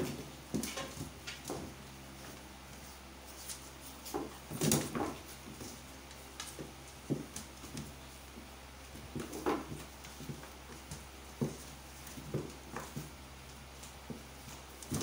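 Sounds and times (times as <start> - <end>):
dogs scuffling on board floor: 0.0 - 15.0.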